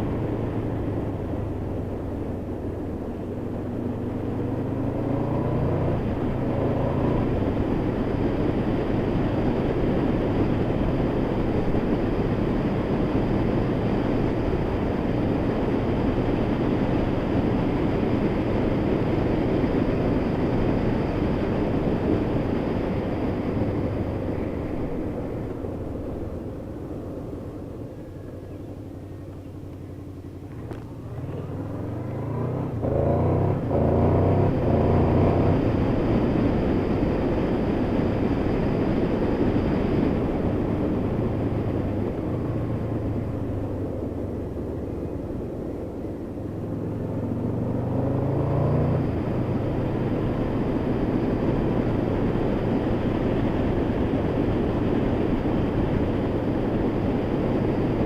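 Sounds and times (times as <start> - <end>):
motorcycle engine accelerating: 0.0 - 58.0
wind and road rush: 0.0 - 58.0.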